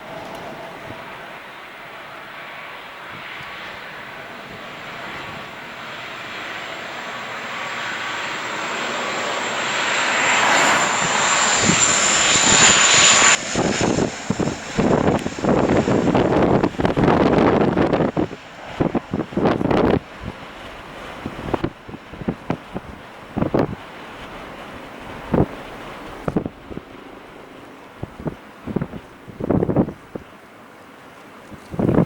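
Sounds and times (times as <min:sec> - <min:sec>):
wind buffeting microphone: 0:00.0 - 0:30.4, 0:31.3 - 0:32.0
turboprop engines with propeller whine: 0:00.0 - 0:32.0.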